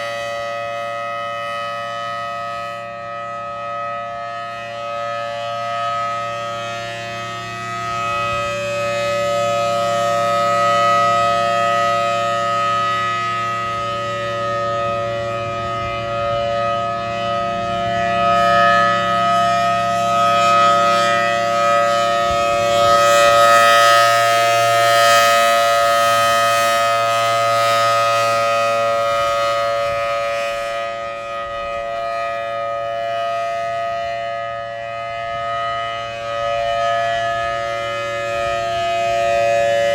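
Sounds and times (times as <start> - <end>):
dual-tone warning siren: 0.0 - 39.9.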